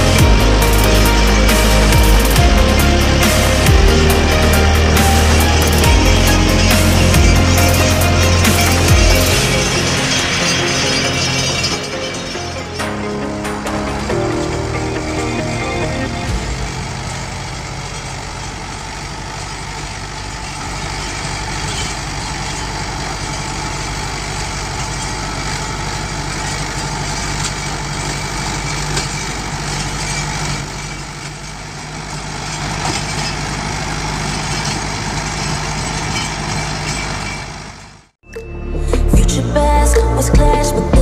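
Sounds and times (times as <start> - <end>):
rotavator churning soil: 0.0 - 38.0
tractor diesel engine running: 0.0 - 41.0.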